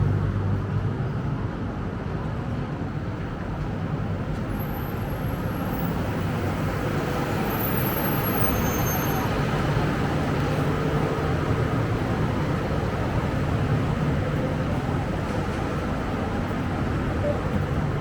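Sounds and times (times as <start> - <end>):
bus diesel engine rumbling: 0.0 - 18.0
street traffic: 0.0 - 18.0.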